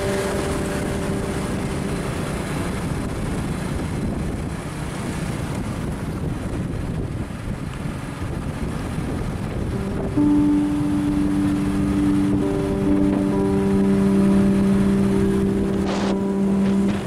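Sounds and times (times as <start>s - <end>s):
vehicle rumble on road: 0.0s - 17.0s
wind buffeting microphone: 0.0s - 17.0s.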